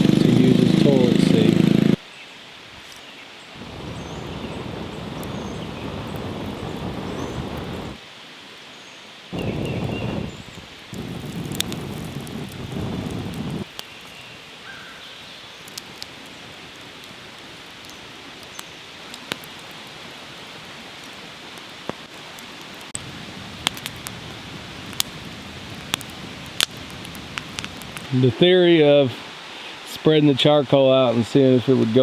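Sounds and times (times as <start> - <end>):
charcoal fire crackling: 0.0 - 2.0, 2.6 - 8.0, 9.4 - 32.0
steady hiss: 0.0 - 8.6, 9.2 - 32.0.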